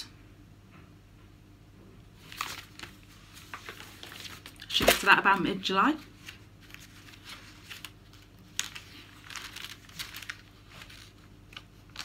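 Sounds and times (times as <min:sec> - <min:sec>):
magazine pages rustling: 0:02.2 - 0:12.0.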